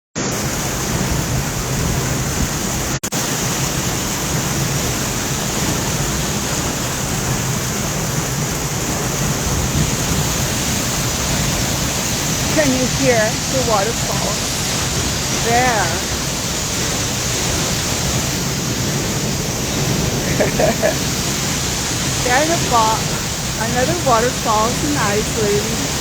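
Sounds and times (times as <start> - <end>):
waterfall roaring: 0.2 - 26.0.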